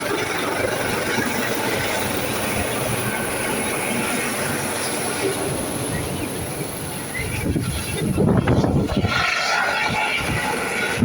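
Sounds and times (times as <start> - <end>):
helicopter engine and rotor noise: 0.0 - 11.0.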